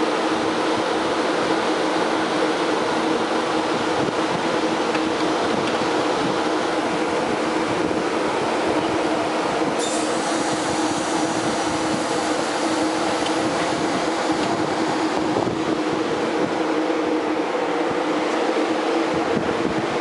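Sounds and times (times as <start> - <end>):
electric train running: 0.0 - 20.0.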